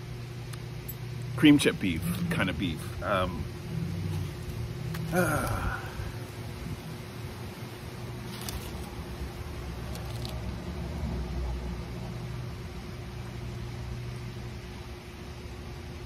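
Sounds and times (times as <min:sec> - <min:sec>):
distant road traffic rumble: 0:00.0 - 0:15.7
faint constant hum: 0:00.0 - 0:16.0.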